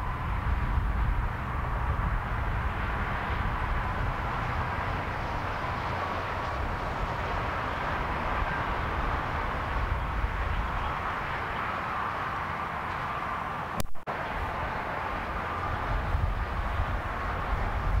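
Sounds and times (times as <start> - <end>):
highway traffic passing: 0.0 - 18.0.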